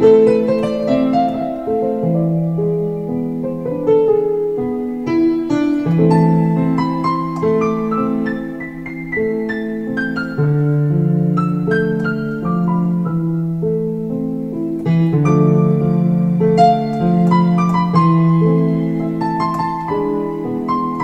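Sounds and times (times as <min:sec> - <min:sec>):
digital piano melody: 0:00.0 - 0:21.0.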